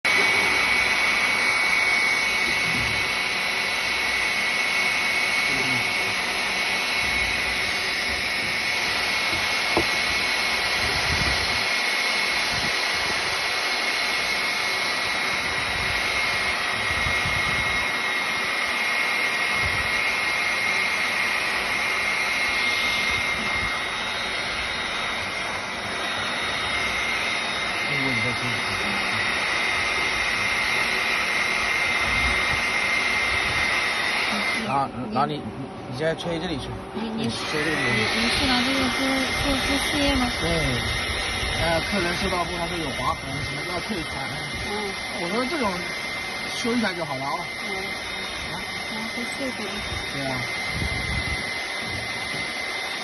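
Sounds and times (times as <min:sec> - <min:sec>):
heat gun blowing air: 0:00.1 - 0:35.3, 0:36.2 - 0:53.0.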